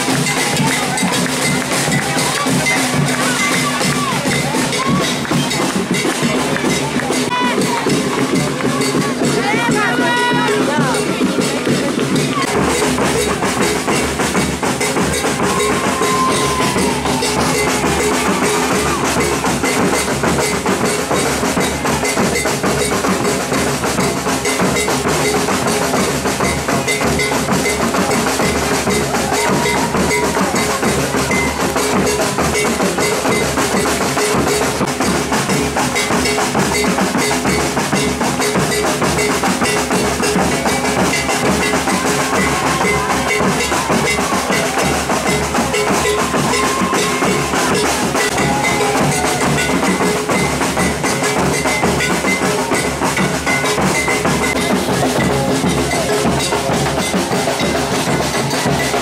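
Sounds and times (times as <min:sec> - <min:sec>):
drum band playing: 0:00.0 - 0:59.0.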